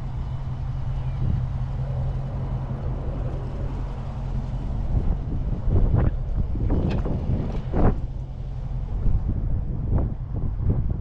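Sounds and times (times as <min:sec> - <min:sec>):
engine idling low: 0:00.0 - 0:11.0
wind gusts on microphone: 0:00.0 - 0:11.0.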